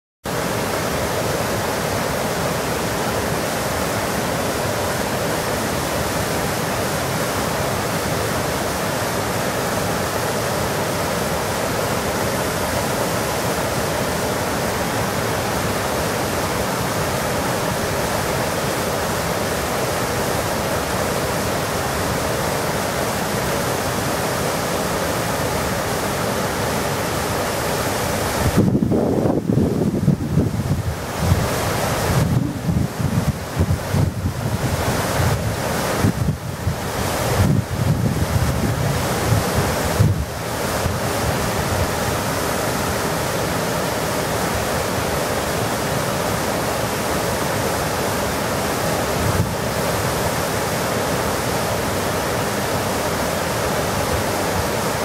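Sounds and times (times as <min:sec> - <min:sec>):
water rushing over a weir: 0:00.3 - 0:55.0.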